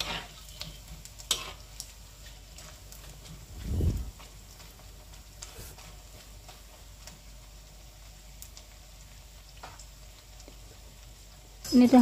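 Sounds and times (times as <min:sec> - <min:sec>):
food deep-frying in oil: 0:00.0 - 0:12.0
oil crackling and popping: 0:00.0 - 0:12.0.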